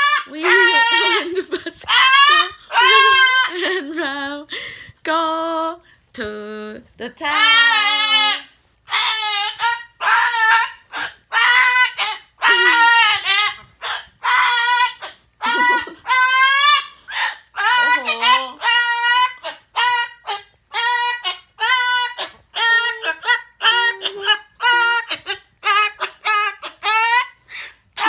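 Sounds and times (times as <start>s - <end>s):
cockatoo singing syllables: 0.0s - 3.8s, 7.1s - 27.4s.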